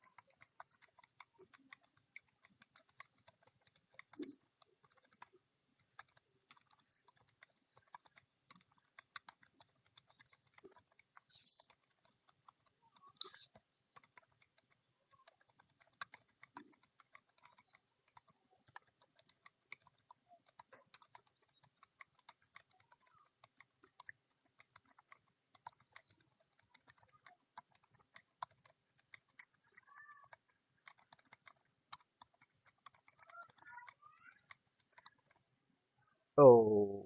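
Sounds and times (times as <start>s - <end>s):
faint keyboard typing: 0.0s - 37.0s.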